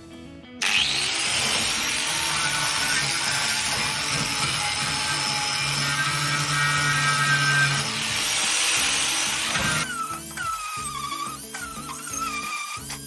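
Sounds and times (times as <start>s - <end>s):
power tool running under load: 0.6s - 13.0s.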